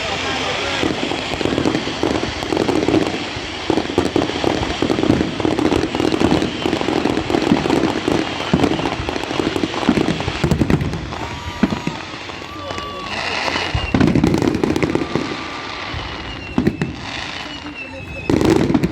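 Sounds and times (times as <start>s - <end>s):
fireworks cracks and bangs: 0.0s - 18.9s.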